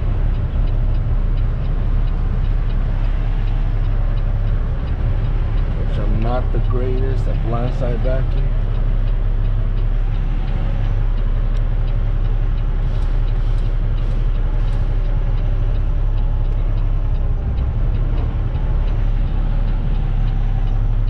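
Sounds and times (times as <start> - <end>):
faint regular ticking: 0.0 - 21.0
truck diesel engine rumbling: 0.0 - 21.0.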